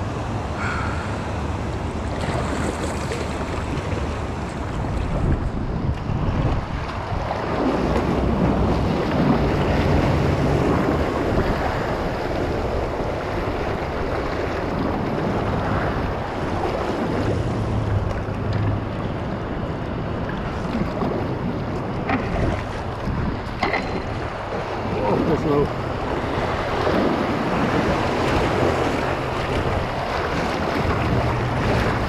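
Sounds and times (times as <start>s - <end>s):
wind buffeting microphone: 0.0s - 32.0s
rushing whitewater: 6.2s - 32.0s.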